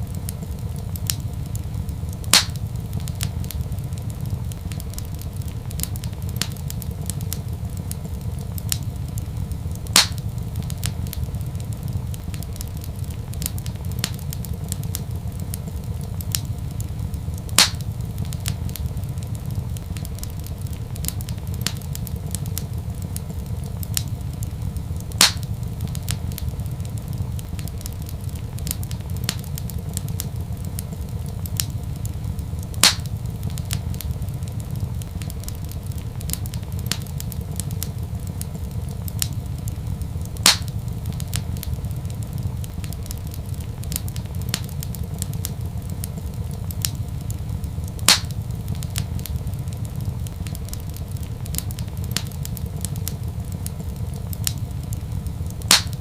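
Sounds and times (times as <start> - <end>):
loud pops from fire: 0.0 - 56.0
low rumble of fire: 0.0 - 56.0
wood fire crackling: 0.0 - 56.0.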